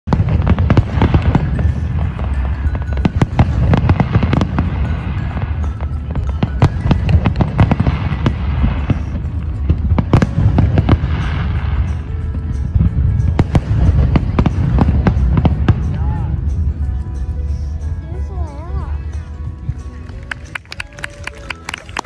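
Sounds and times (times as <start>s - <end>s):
fireworks booming and crackling: 0.0s - 18.0s.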